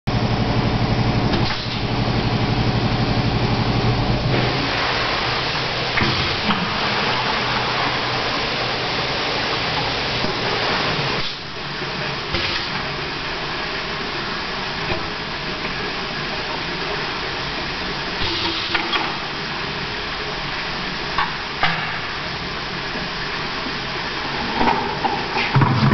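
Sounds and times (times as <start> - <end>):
pulsing mechanical hum: 0.1 - 25.9.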